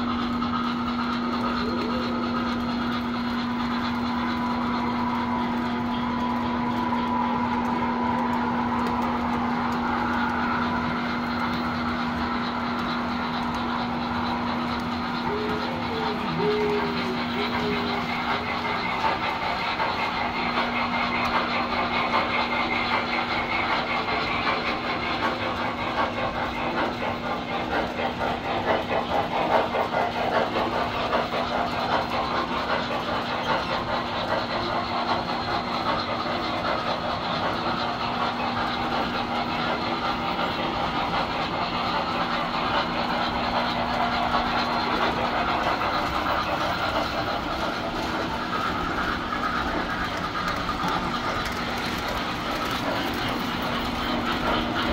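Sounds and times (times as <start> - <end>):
model train motors whirring: 0.0 - 54.9
wheels clicking over rail joints: 0.0 - 54.9.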